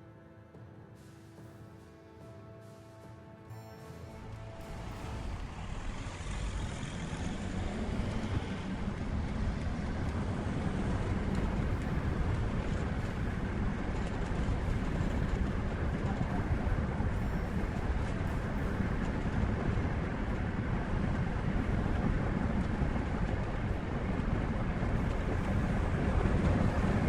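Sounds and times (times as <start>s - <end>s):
heavy vehicle rumbling: 3.8s - 27.0s.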